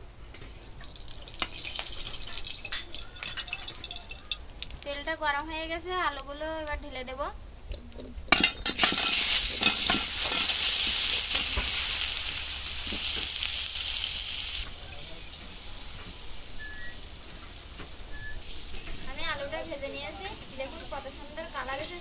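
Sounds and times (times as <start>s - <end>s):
potatoes sizzling in hot oil: 0.3s - 6.4s, 8.4s - 22.0s.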